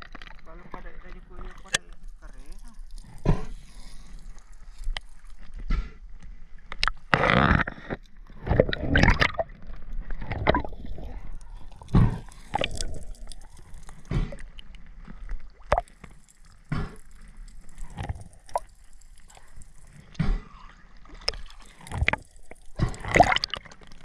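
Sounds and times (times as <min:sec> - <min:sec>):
water sloshing and splashing: 0:00.0 - 0:24.0.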